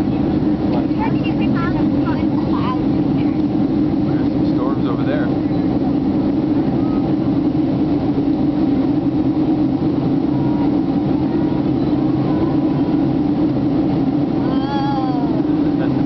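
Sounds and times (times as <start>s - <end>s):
jet cabin drone: 0.0s - 16.0s.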